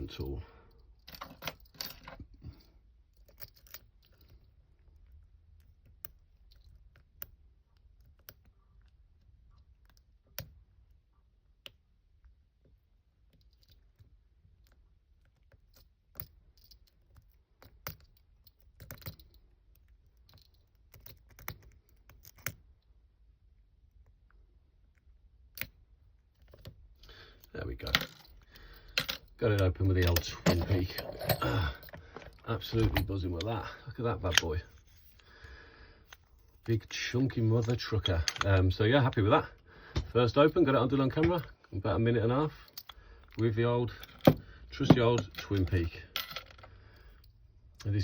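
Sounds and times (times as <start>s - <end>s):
lock pick raking a padlock: 0.2s - 10.6s, 13.3s - 22.8s, 25.0s - 35.3s, 36.0s - 47.8s.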